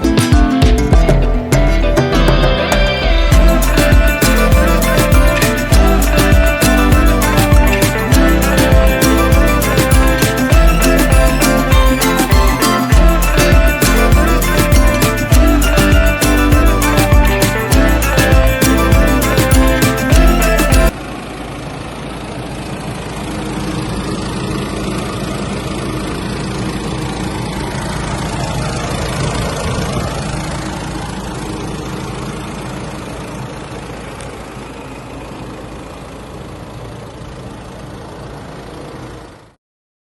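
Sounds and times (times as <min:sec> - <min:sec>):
diesel engine idling: 0:00.0 - 0:39.5.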